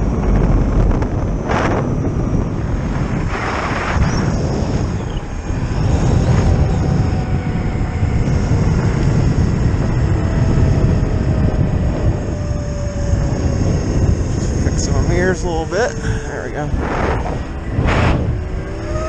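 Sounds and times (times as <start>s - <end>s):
electric motor whine: 0.0s - 19.0s
wind rushing over microphone: 0.0s - 19.0s.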